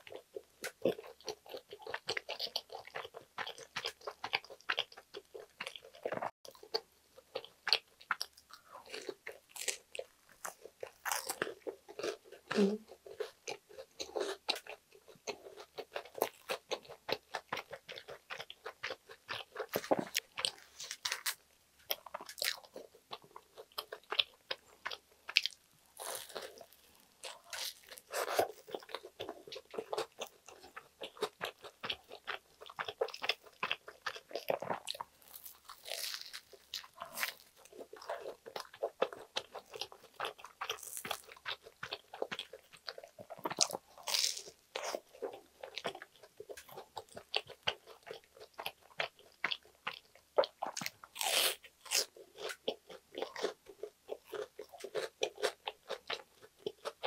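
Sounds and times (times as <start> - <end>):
crunchy sandwich eating: 0.0 - 57.0.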